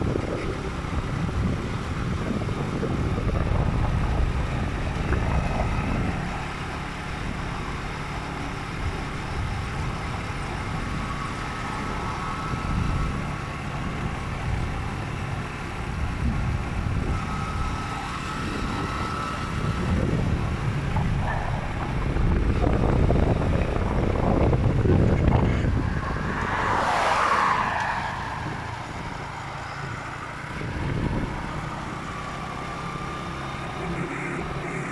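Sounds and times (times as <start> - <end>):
motorcycle engine and road rumble: 0.0 - 34.9
traffic: 0.0 - 34.9.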